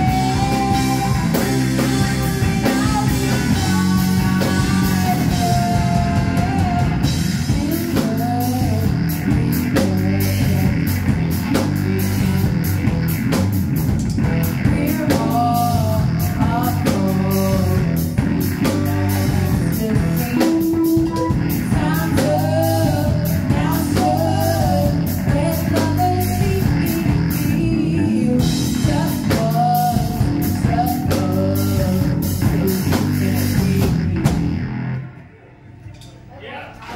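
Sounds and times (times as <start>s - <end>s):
person singing: 0.0s - 12.8s, 14.4s - 34.3s
saxophone: 0.0s - 35.4s
live rock band playing: 0.0s - 36.3s.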